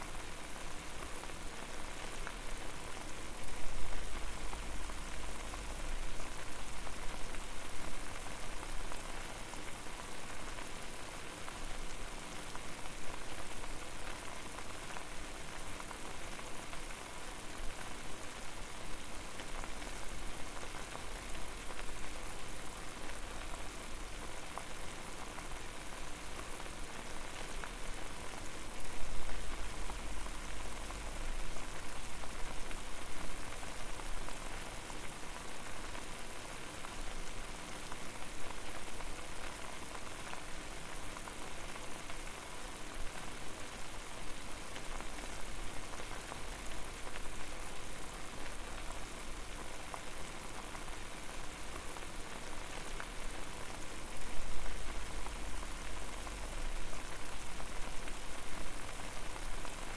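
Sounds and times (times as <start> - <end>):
water boiling and bubbling: 0.0 - 59.9.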